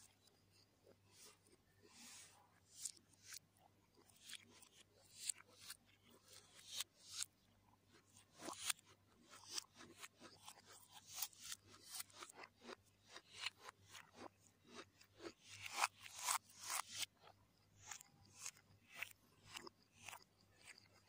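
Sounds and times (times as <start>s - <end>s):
crunchy chewing: 0.0s - 21.0s.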